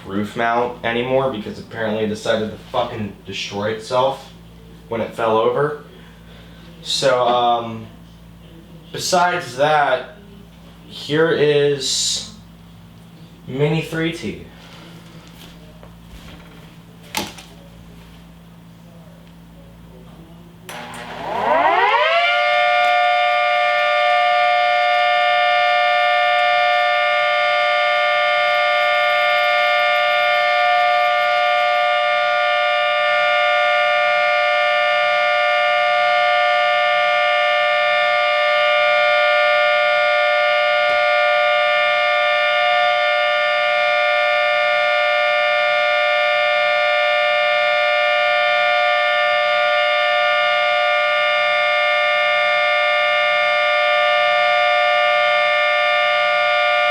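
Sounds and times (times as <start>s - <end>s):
three-tone siren steady chord: 0.1s - 15.5s, 20.2s - 56.9s.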